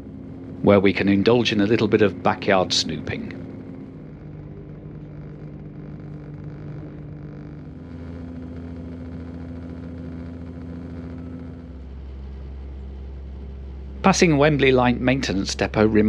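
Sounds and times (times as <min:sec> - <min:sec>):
train diesel engine hum: 0:00.0 - 0:16.0
train running noise: 0:00.0 - 0:16.0.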